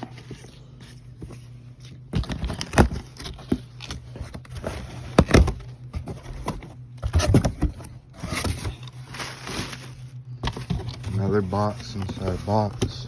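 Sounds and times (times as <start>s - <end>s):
cardboard box rustling: 0.0s - 13.0s
steady low hum: 0.0s - 13.0s.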